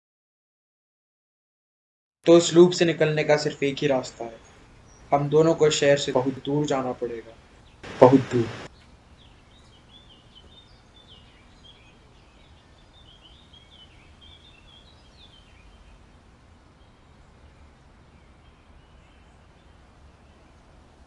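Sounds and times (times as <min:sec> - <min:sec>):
small birds chirping: 0:03.3 - 0:21.0.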